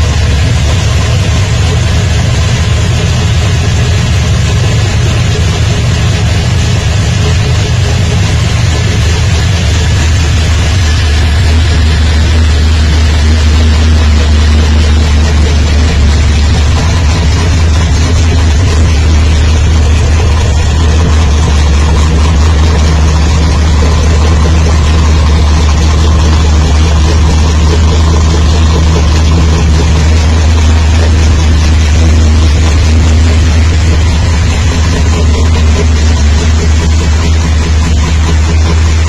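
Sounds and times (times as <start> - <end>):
car engine idling loudly: 0.0 - 39.0.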